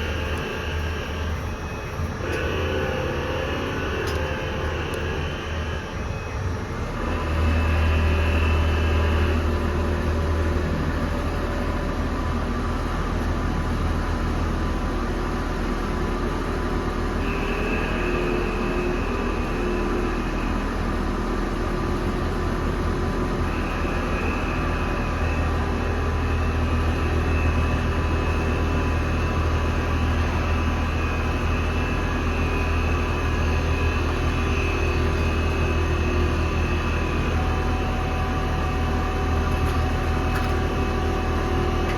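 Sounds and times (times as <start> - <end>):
high-pitched lathe whine: 0.0 - 41.9
lathe motor hum: 0.0 - 41.9.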